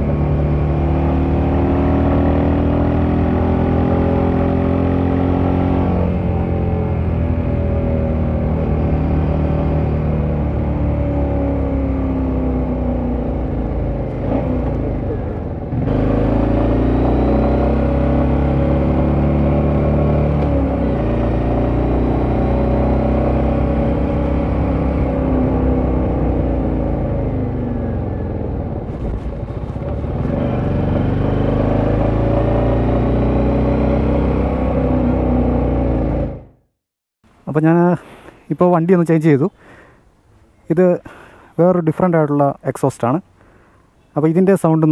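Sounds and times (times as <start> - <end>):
motorcycle engine accelerating: 0.0 - 36.8.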